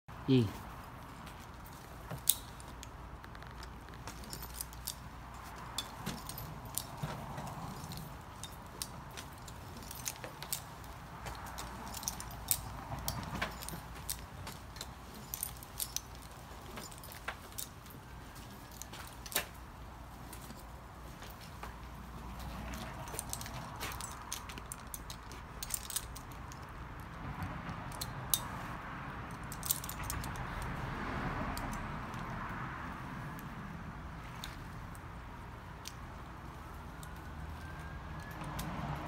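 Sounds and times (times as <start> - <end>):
metal rope hardware clinking: 0.4 - 39.0.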